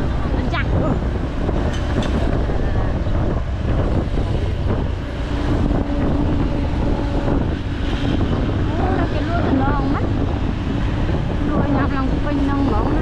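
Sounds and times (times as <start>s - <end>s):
road traffic rumble: 0.0s - 13.0s
steady engine drone: 0.0s - 13.0s
wind buffeting microphone: 0.0s - 13.0s.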